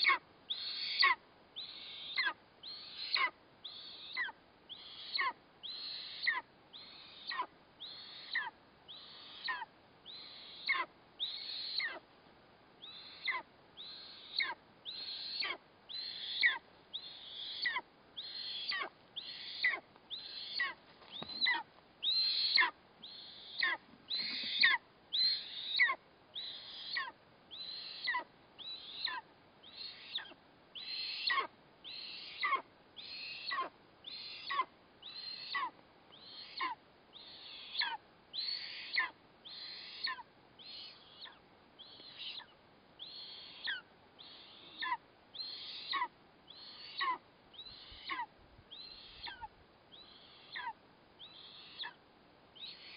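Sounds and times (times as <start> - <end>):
eagle chick begging calls: 0.0 - 12.0, 12.8 - 52.0.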